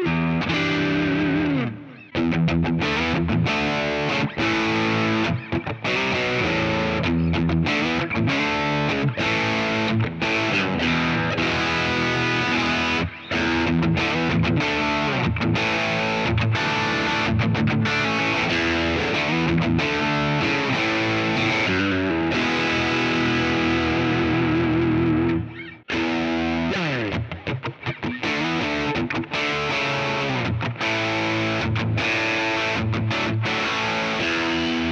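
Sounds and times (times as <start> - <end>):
distorted electric guitar: 0.0 - 34.9.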